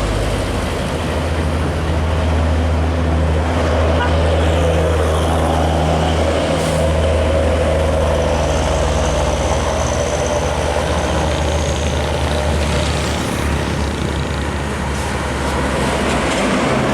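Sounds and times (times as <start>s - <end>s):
bus diesel engine droning: 0.0s - 16.9s.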